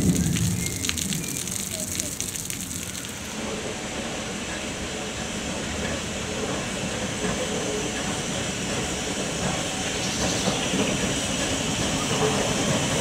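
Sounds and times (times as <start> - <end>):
steam locomotive and wheels rumbling: 0.0 - 13.0.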